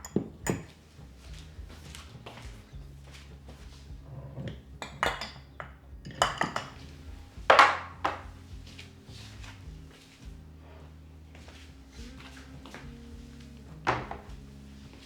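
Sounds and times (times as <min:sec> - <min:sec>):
dishes and cutlery clinking: 0:00.0 - 0:13.0, 0:13.8 - 0:15.0.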